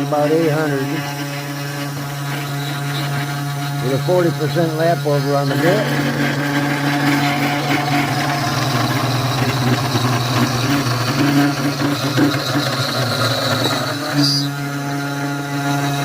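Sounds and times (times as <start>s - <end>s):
router spindle cutting wood: 0.0s - 16.0s.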